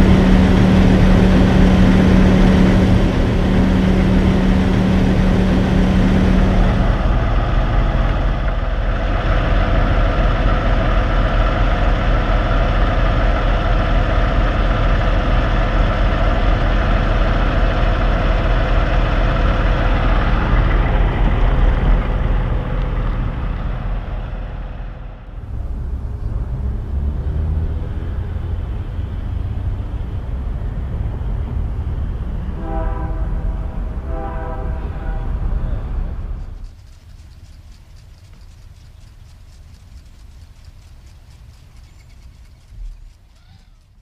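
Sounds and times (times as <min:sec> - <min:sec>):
diesel truck engines idling: 0:00.0 - 0:44.0.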